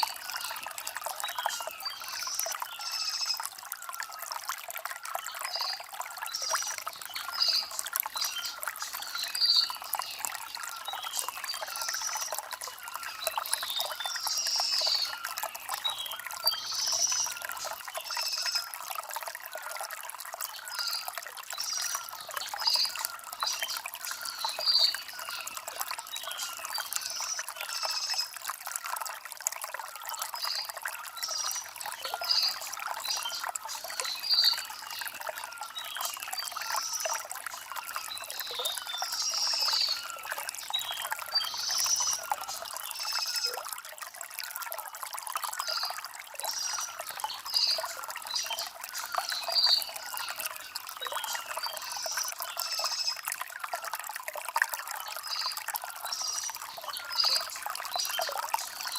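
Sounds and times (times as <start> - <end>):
stream trickling over stones: 0.0 - 58.9.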